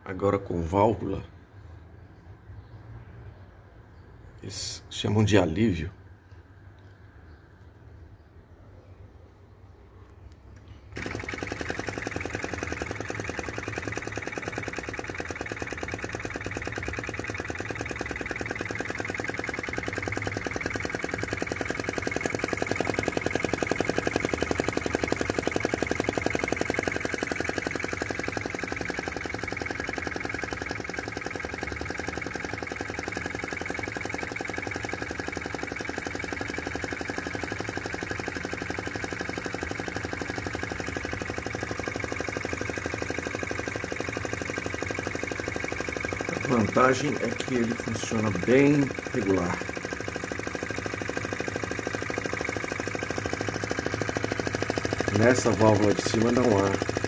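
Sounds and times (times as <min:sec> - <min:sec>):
model engine rapid clatter: 0:10.9 - 0:57.0.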